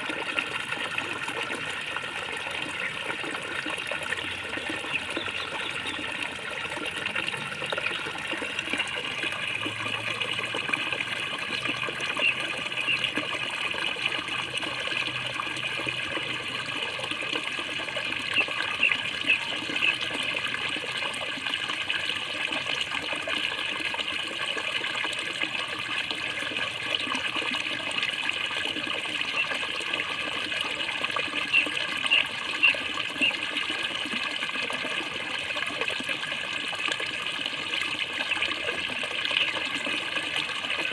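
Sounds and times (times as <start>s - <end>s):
water gurgling: 0.0s - 40.9s
water spurts: 0.0s - 40.9s.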